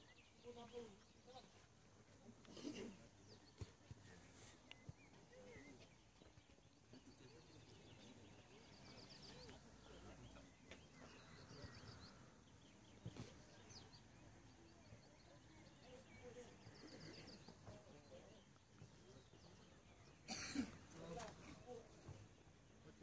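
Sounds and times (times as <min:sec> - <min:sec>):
faint distant voices: 0:00.0 - 0:23.0
outdoor background noise: 0:00.0 - 0:23.0.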